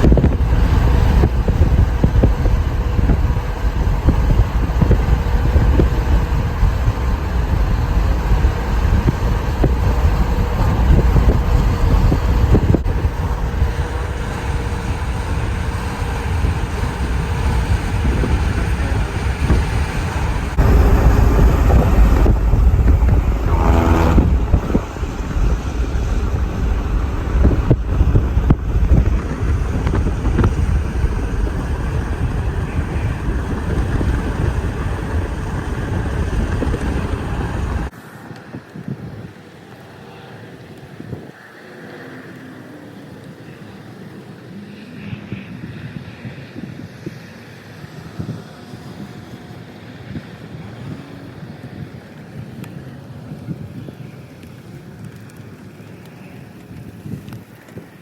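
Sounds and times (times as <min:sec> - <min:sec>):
wind gusting on microphone: 0:00.0 - 0:58.0.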